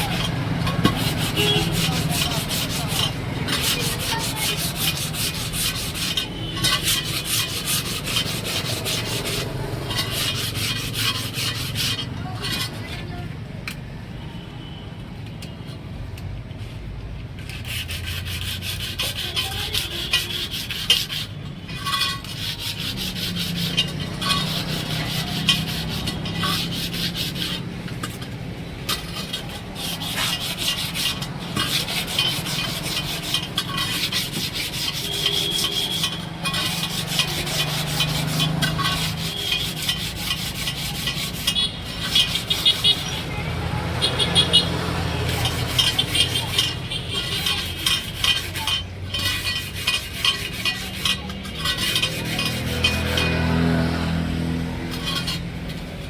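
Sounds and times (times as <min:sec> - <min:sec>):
rasping and scraping on a tyre: 0:00.0 - 0:56.0.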